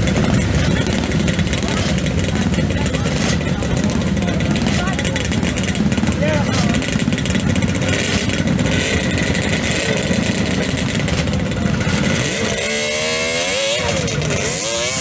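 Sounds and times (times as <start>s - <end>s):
motorcycle engine revving: 0.0s - 15.0s
motorcycle engines pulling away: 0.0s - 15.0s.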